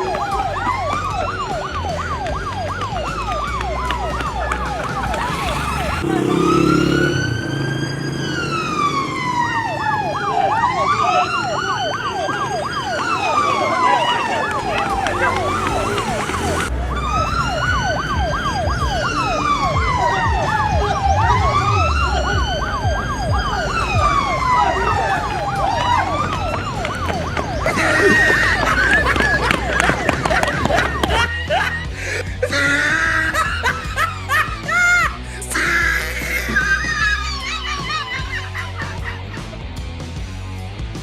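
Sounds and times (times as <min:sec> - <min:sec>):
electronic police siren: 0:00.0 - 0:39.2.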